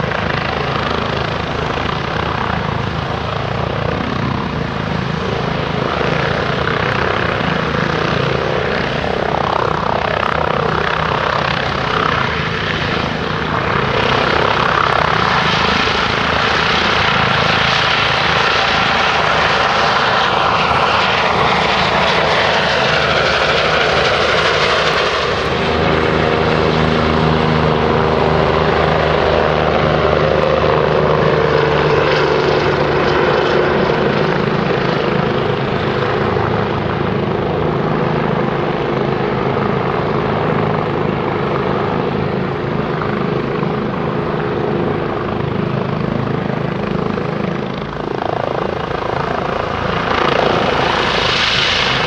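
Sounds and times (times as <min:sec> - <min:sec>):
helicopter turbines and rotor: 0:00.0 - 0:52.0
second helicopter close by: 0:00.0 - 0:52.0.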